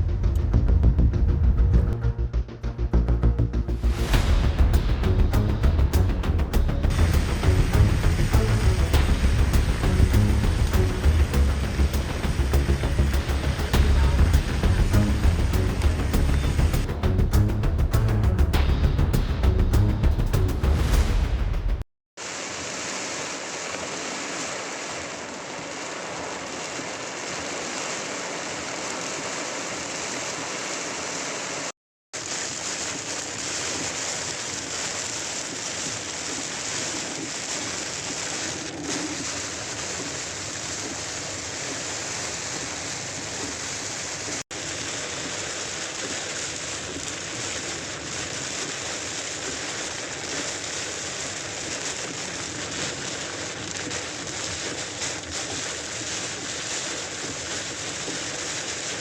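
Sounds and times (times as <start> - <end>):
running water: 3.8 - 21.4, 22.2 - 59.0
heavy rainstorm: 3.8 - 59.0.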